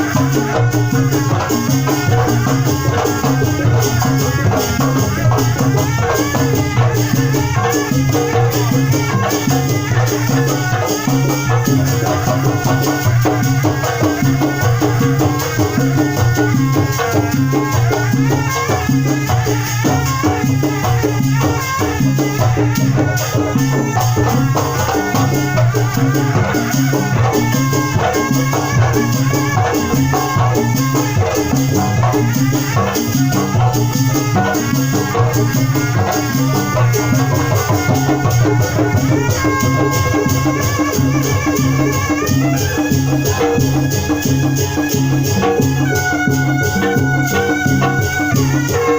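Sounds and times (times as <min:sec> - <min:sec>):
pitched instrument parts: 0:00.0 - 0:48.9
traditional drums playing rhythm: 0:00.0 - 0:48.9.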